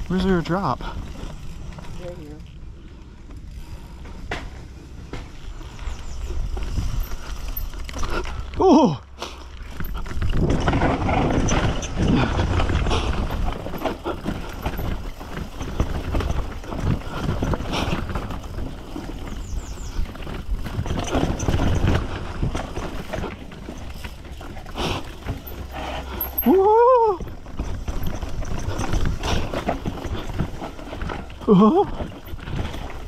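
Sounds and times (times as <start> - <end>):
bike chain and frame rattling: 0.0 - 33.0
bike tyres over dirt and rocks: 0.0 - 33.0.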